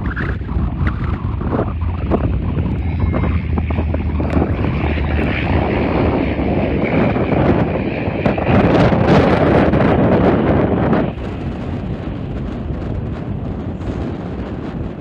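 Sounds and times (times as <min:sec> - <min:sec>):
high engine whine: 0:00.0 - 0:15.0
jet engine rumble: 0:00.0 - 0:15.0
wind buffeting microphone: 0:00.0 - 0:15.0.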